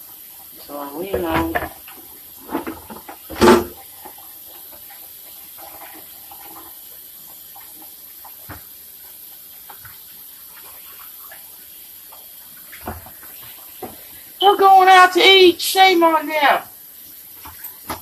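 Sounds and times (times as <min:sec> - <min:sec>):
running water hissing: 0:00.0 - 0:18.0.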